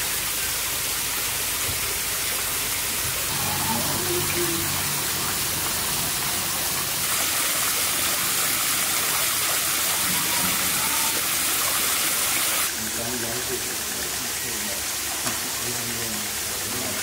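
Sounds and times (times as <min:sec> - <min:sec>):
water spraying: 0:00.0 - 0:17.0.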